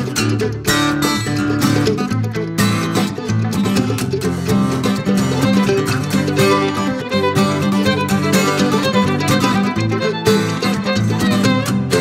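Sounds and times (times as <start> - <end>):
fiddle melody: 0.0 - 12.0
guitar accompaniment: 0.0 - 12.0
plucked mandolin: 0.0 - 12.0.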